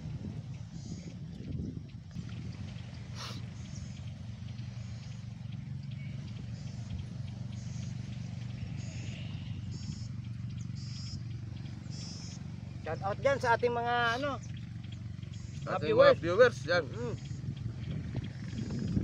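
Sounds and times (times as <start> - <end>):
low engine hum: 0.0 - 19.0
faint ticks: 0.2 - 13.4, 14.1 - 16.3, 17.0 - 19.0.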